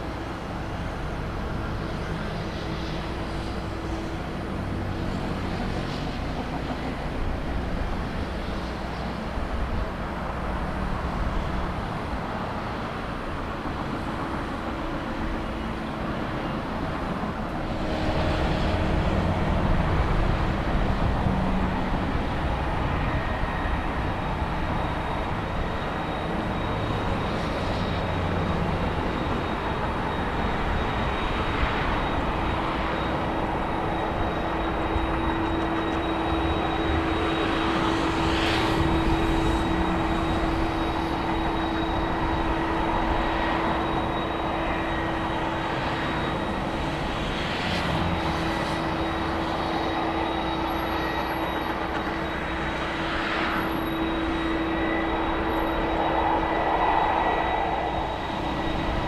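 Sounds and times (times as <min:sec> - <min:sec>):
airliner engines running: 0:00.0 - 0:59.0.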